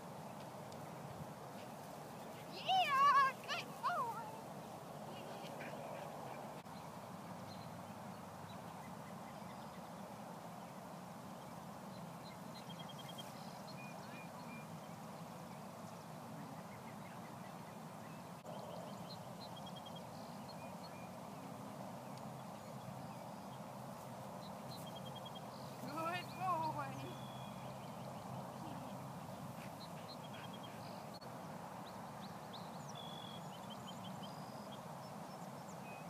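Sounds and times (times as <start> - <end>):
birds chirping: 0.0 - 10.0, 10.6 - 36.0
outdoor background rush: 0.0 - 36.0.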